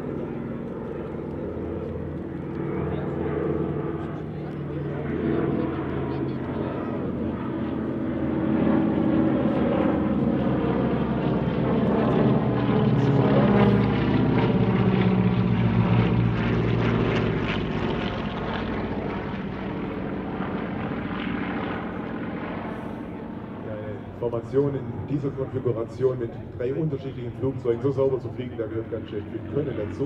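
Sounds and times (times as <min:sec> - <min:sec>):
propeller planes droning past: 0:00.0 - 0:30.0.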